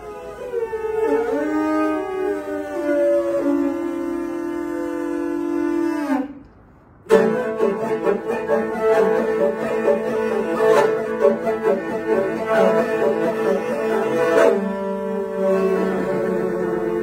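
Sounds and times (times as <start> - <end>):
bowed fiddles playing: 0.0 - 17.0.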